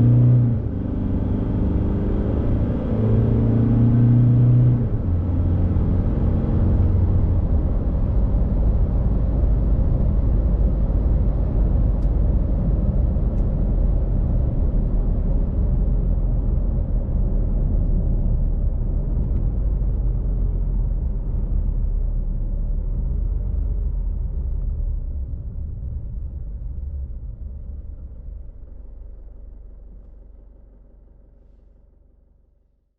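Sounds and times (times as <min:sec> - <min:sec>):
diesel engine rumble: 0:00.0 - 0:32.5.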